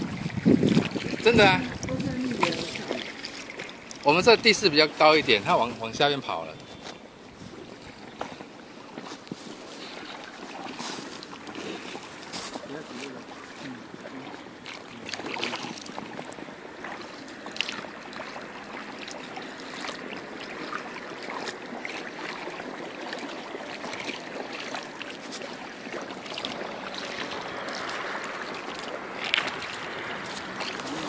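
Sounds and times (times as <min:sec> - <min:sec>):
moving water wash: 0:00.0 - 0:31.0
paddle splashing in water: 0:00.0 - 0:31.0.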